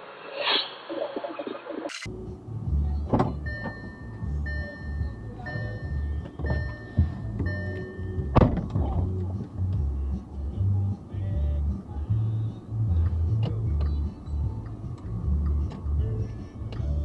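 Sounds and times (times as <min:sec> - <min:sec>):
music from car radio: 0:02.0 - 0:17.0
road noise inside car: 0:02.0 - 0:17.0.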